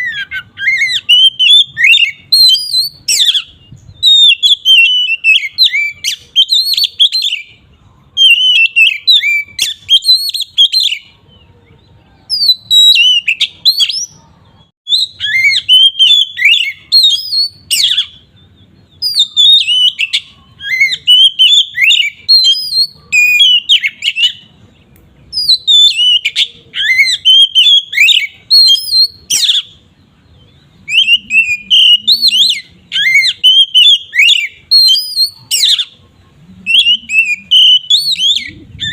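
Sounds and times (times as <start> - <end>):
bird singing whistled song: 0.0 - 36.0, 36.6 - 38.9.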